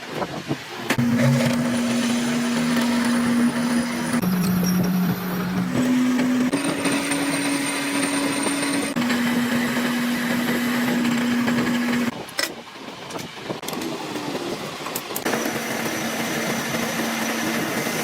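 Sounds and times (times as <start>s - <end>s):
workshop machinery motor hum: 0.6s - 12.3s, 13.6s - 18.0s.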